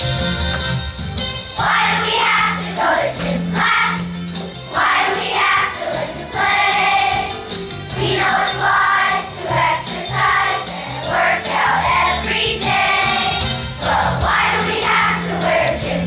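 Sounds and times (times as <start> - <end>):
instrumental accompaniment: 0.0 - 16.0
children's choir singing: 1.6 - 16.0.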